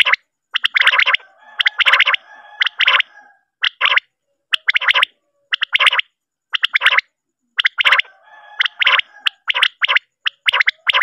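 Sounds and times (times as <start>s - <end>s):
quail calling: 0.0s - 11.0s.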